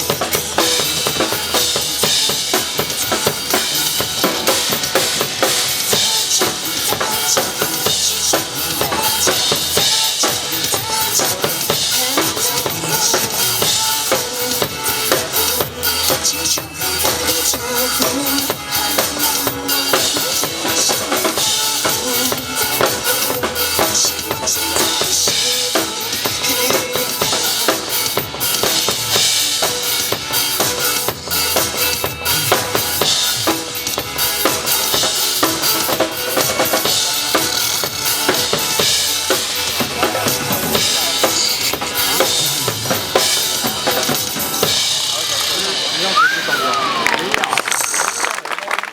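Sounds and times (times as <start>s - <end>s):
drum kit beat: 0.0s - 48.2s
recorded backing music: 0.0s - 48.9s.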